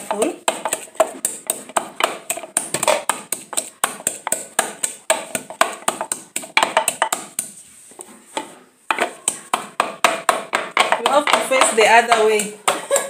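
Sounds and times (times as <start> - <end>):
wooden pestle pounding in mortar: 0.0 - 7.6, 8.9 - 13.0.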